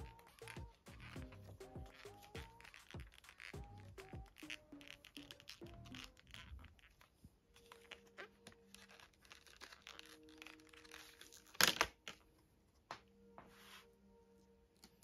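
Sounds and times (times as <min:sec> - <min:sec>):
faint soft music: 0:00.0 - 0:15.0.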